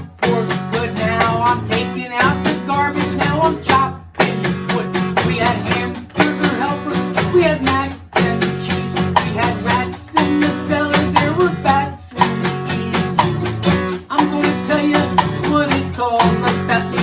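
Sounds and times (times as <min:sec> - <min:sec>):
strummed guitar music: 0:00.0 - 0:17.0.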